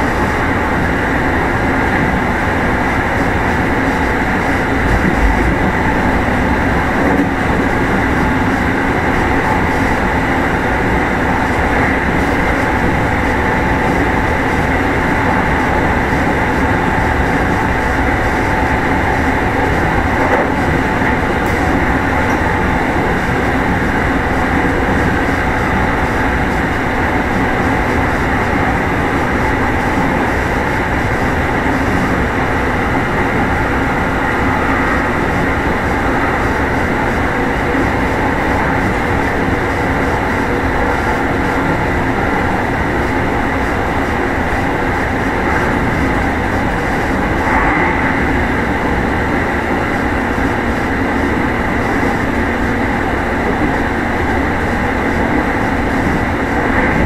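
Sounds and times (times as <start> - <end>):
running gear hum: 0.0 - 57.0
train wheels rumbling on rail: 0.0 - 57.0.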